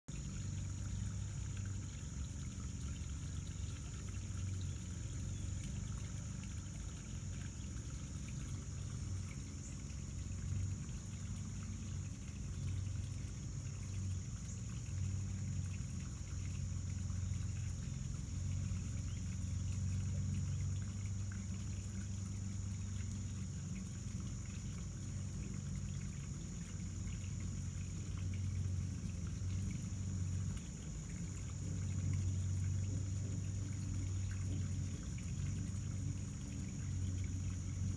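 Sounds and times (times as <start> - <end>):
steady background hum: 0.1 - 37.9.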